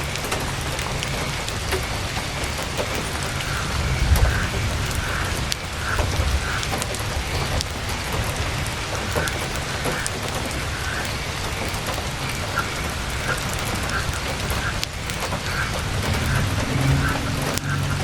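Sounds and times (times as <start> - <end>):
heavy rain drumming on a tent: 0.0 - 18.0
sharp ticks of drops: 0.0 - 18.0
low rumble: 0.6 - 9.8, 12.1 - 18.0.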